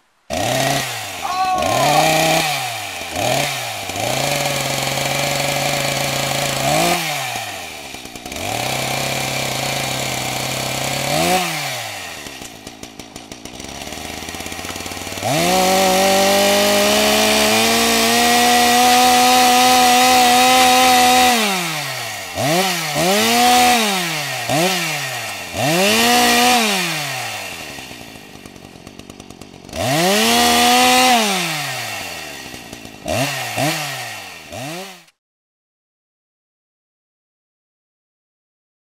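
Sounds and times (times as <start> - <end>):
chainsaw engine idling and revving: 0.3 - 35.2.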